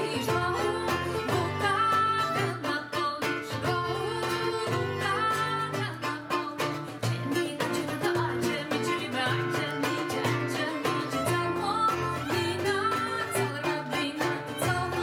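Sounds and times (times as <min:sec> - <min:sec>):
acoustic guitar strumming: 0:00.0 - 0:15.0
violin: 0:00.0 - 0:15.0
woman singing: 0:00.0 - 0:15.0.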